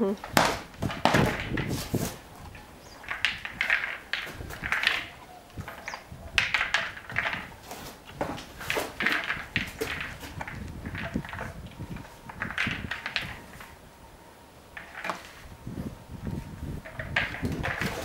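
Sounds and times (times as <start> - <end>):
plastic ball rolling on rubber matting: 0.2 - 13.8, 14.8 - 18.0.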